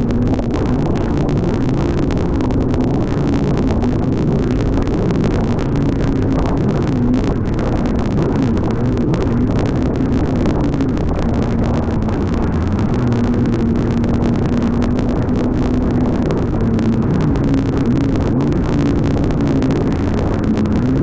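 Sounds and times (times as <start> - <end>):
jet ski engine drone: 0.0 - 21.0
wind and water noise: 0.0 - 21.0.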